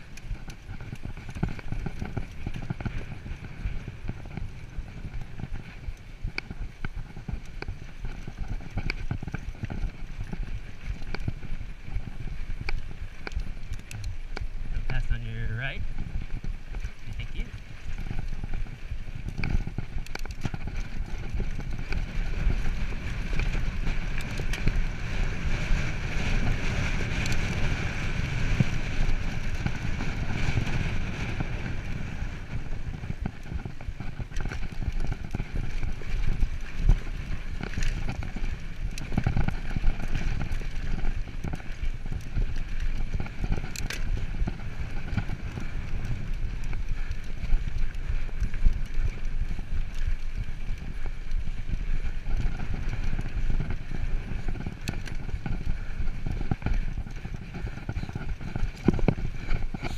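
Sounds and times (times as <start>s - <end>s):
bike rattling and knocking: 0.0s - 59.9s
bike tyres rumbling on dirt: 0.0s - 59.9s.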